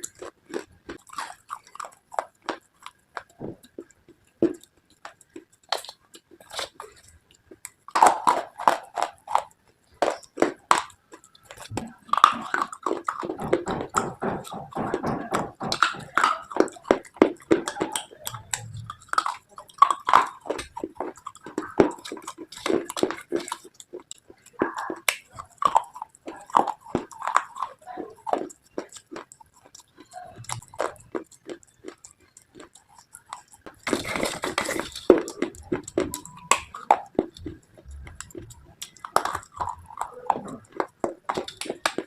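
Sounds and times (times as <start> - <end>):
crunchy chewing: 0.0 - 42.0.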